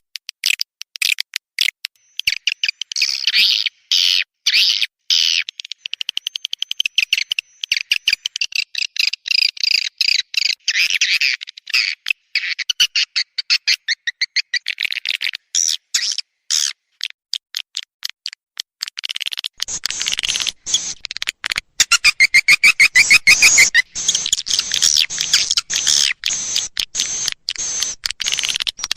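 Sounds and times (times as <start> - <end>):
swiftlet chirps and twitters: 2.0 - 16.7, 19.4 - 28.9.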